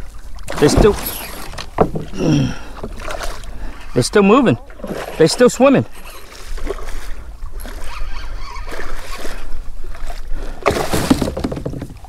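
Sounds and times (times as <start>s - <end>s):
fish thrashing and splashing: 0.2s - 3.8s, 5.9s - 12.0s.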